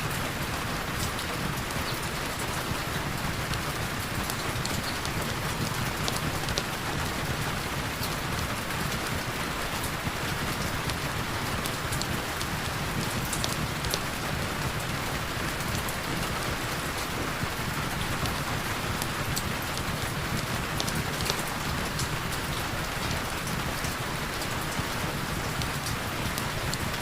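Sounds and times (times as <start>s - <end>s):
heavy rain falling: 0.0s - 27.0s
raindrop ticks: 0.0s - 27.0s.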